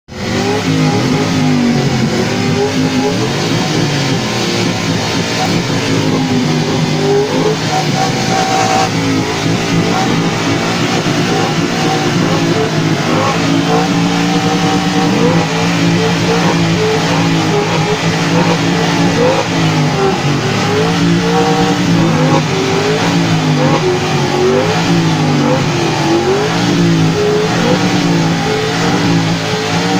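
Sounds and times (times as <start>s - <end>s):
vehicle engines revving: 0.1s - 29.9s.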